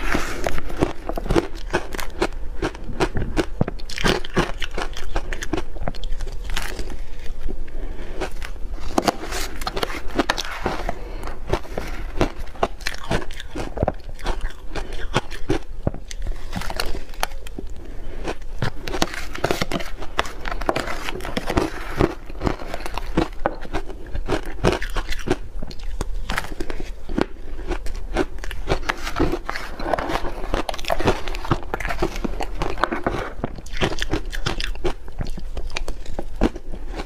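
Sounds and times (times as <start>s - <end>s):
chewing crunchy ice: 0.0s - 37.0s.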